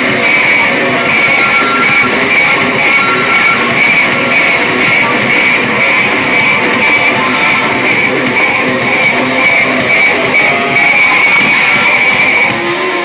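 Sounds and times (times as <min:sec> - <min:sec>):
distorted bass guitar: 0:00.0 - 0:13.0
drum kit: 0:00.0 - 0:13.0.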